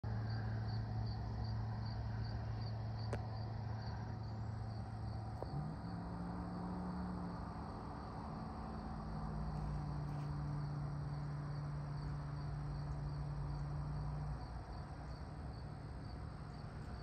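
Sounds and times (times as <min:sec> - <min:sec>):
low mechanical hum: 0:00.0 - 0:17.0
cricket chirping: 0:00.1 - 0:17.0.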